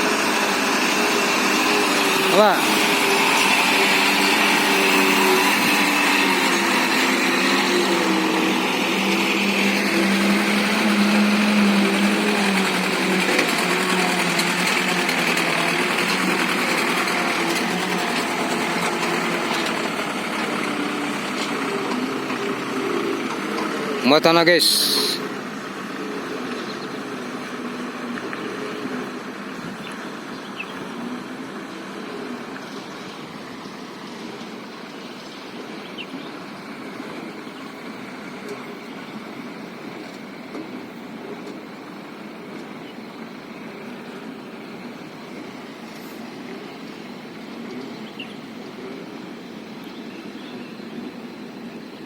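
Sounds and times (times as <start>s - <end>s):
diesel truck engine under load: 0.0s - 52.0s.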